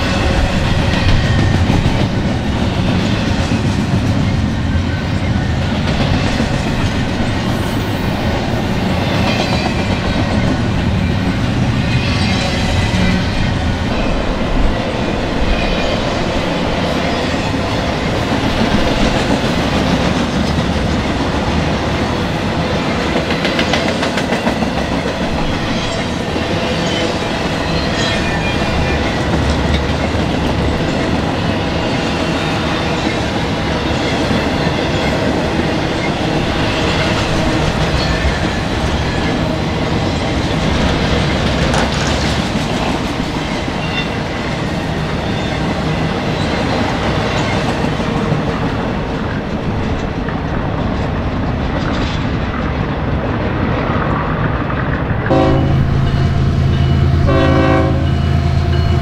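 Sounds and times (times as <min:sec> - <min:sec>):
freight train cars rolling past: 0:00.0 - 0:59.0
steel wheels on rails: 0:00.0 - 0:59.0.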